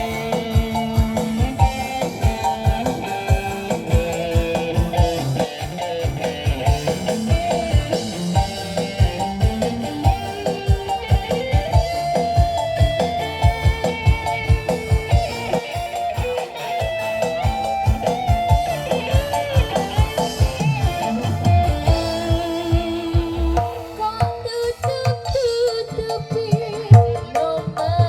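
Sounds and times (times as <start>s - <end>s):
lead guitar melody: 0.0s - 28.0s.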